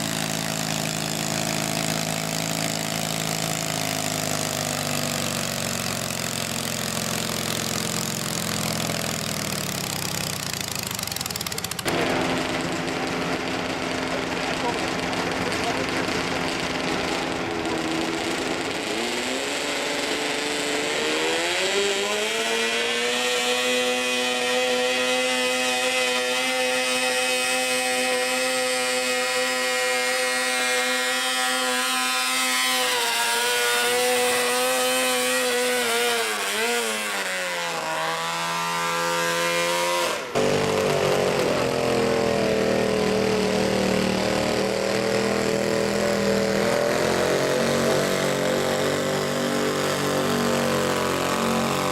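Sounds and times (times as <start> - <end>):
lawn mower engine revving: 0.0 - 51.9.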